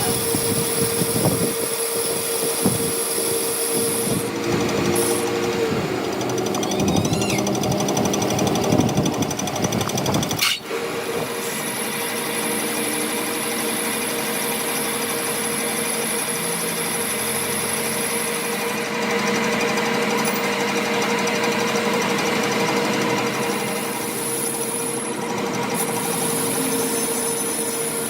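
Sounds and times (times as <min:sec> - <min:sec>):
workshop machine humming and whining: 0:00.0 - 0:28.0.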